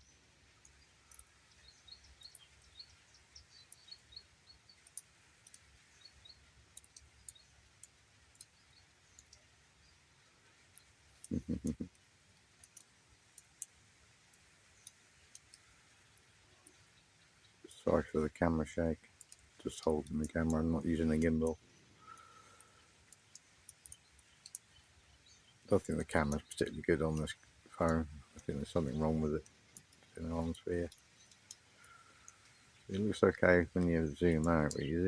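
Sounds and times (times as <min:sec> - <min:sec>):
light scattered clicks: 0:00.6 - 0:09.5, 0:10.6 - 0:35.0.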